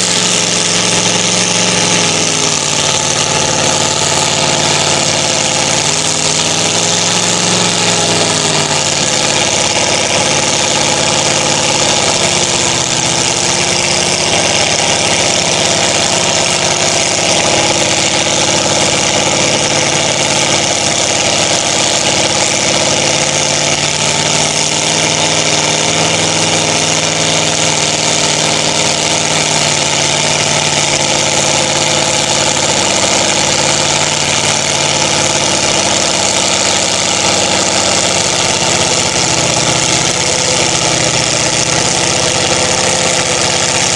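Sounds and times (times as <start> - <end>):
pickup truck engine at low revs: 0.0 - 43.9.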